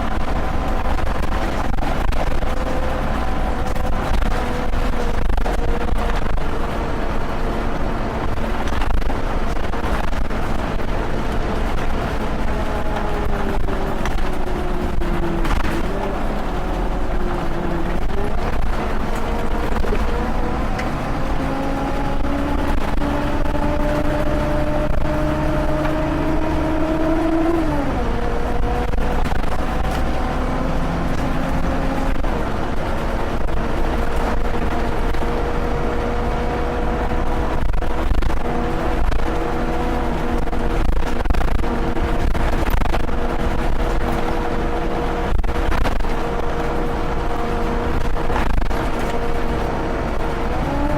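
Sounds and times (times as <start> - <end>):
bus engine pulling away: 0.0 - 50.9.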